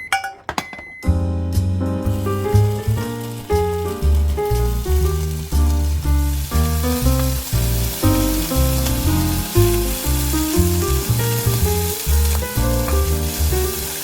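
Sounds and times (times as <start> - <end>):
background music: 1.1 - 14.0
food sizzling in oil: 1.6 - 14.0.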